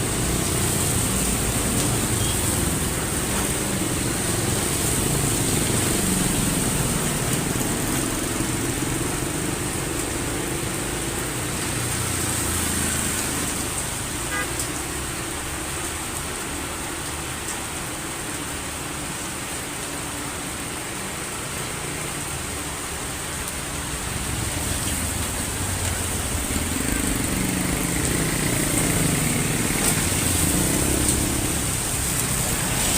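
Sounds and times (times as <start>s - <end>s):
heavy rain hissing: 0.0s - 32.9s.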